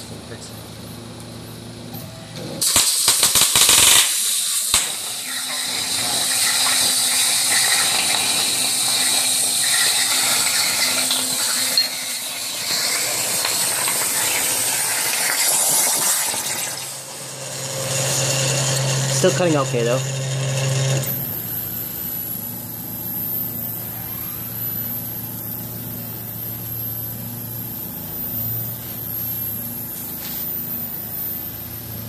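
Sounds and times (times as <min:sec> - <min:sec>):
plasma torch arc crackling: 0:02.6 - 0:32.0
plasma torch cutting hiss: 0:02.6 - 0:32.0.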